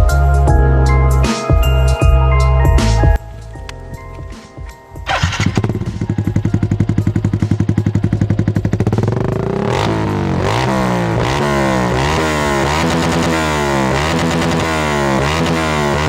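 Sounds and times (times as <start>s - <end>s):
motorcycle engine idling and revving: 2.8s - 16.0s.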